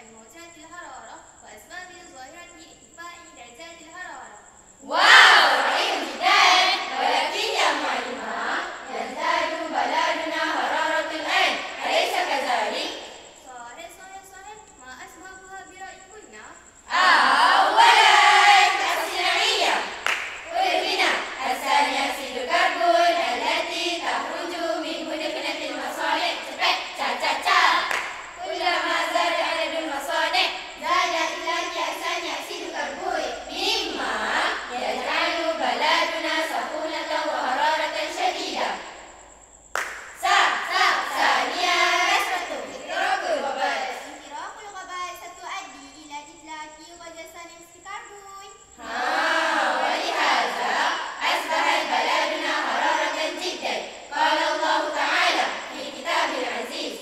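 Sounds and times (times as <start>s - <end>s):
girls chanting in unison: 0.0s - 45.3s, 48.1s - 57.0s.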